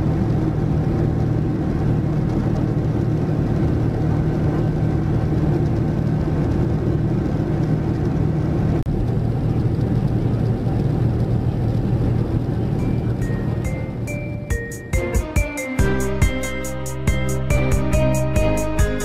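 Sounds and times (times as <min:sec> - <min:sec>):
jet engine hum in cabin: 0:00.0 - 0:19.0.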